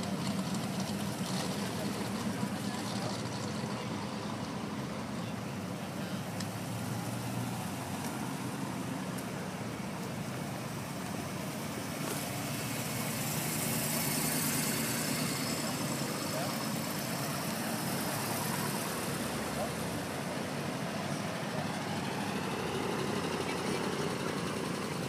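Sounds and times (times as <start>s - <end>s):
cars driving past slowly: 0.0s - 25.0s.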